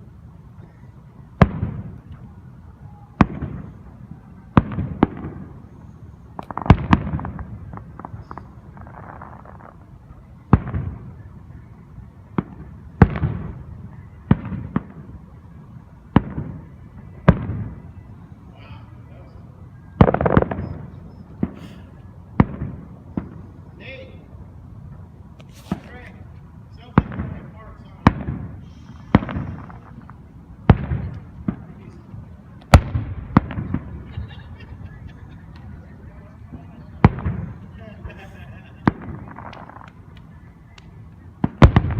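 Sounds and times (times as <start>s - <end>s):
fireworks banging and crackling: 0.0s - 41.9s.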